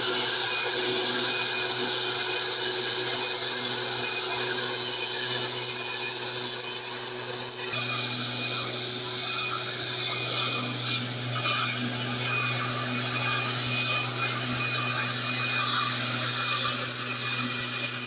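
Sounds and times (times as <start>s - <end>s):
mist-blower engine droning: 0.1s - 18.0s.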